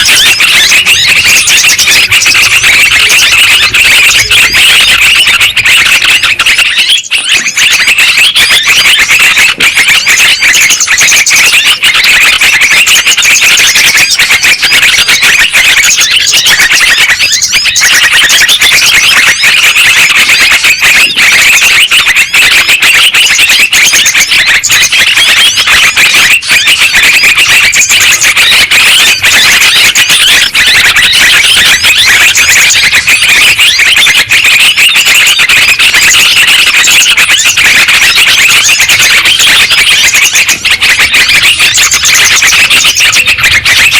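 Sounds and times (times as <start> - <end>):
chorus of bulbul calls: 0.0 - 43.9.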